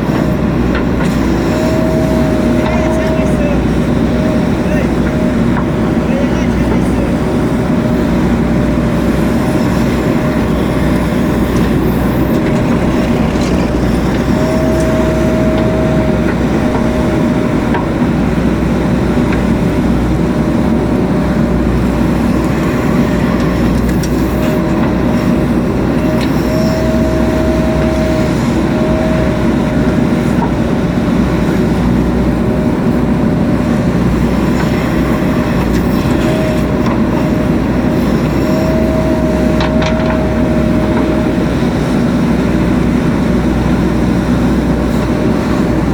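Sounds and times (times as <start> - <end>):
diesel engine running: 0.0 - 45.9
hydraulic whine: 0.0 - 45.9.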